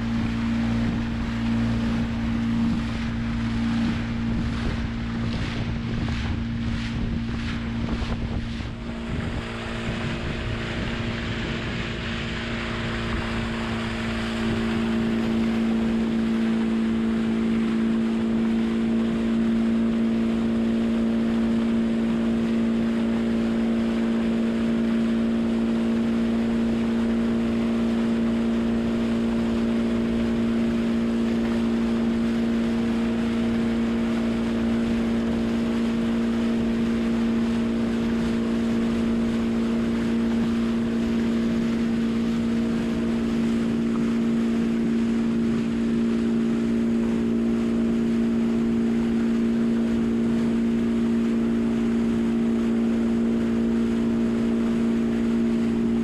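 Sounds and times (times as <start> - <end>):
outboard motor humming: 0.0 - 56.0
water and wind rushing: 0.0 - 56.0.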